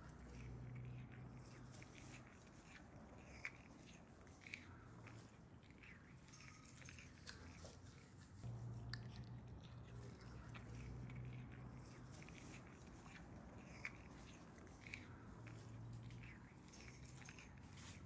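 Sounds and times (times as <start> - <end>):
animal chewing crunches: 0.0 - 18.0
low steady hum: 0.0 - 18.0.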